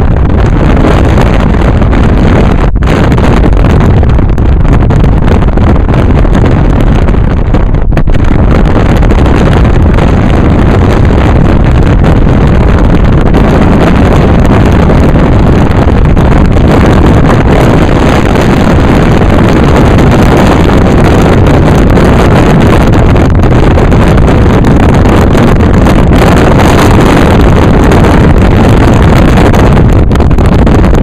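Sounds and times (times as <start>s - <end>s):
car road and engine noise: 0.0s - 31.0s
wind buffeting microphone: 0.0s - 31.0s.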